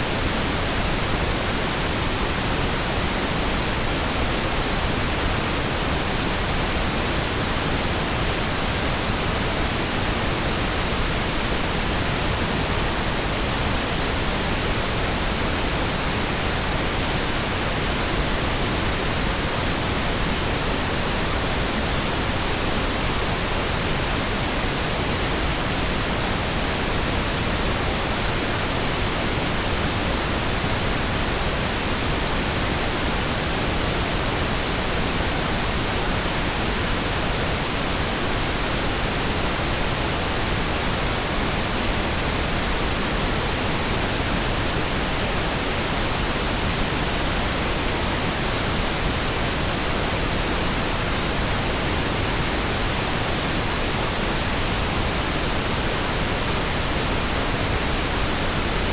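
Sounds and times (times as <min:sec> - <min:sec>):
steady pink noise hiss: 0:00.0 - 0:58.9.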